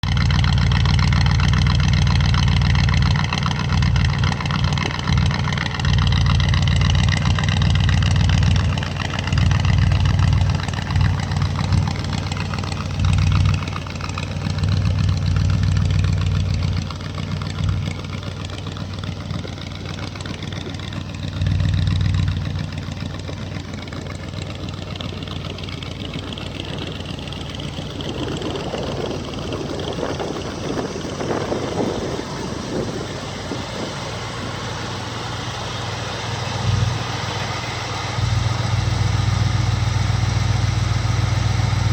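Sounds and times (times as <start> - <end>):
pickup engine rumbling: 0.0 - 41.9.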